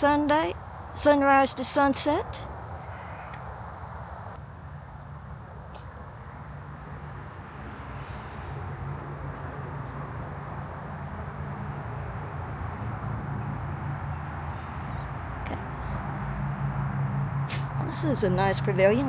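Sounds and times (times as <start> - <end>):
insects chirping: 0.0 - 19.0
thin steady insect trill: 0.0 - 19.0.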